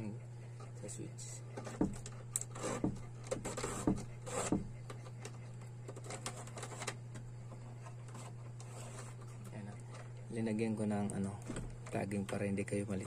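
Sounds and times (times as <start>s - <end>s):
steady low hum: 0.0s - 13.0s
wires scraping through plastic conduit: 0.6s - 12.4s.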